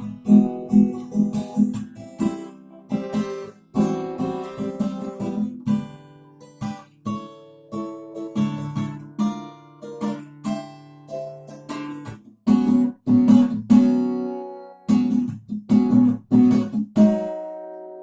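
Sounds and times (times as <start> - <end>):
fingerstyle acoustic guitar: 0.0 - 18.0.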